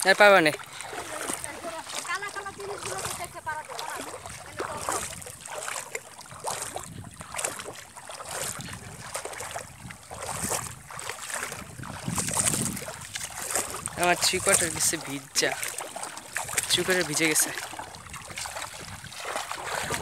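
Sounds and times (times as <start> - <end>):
river water sloshing from wading: 0.0 - 20.0.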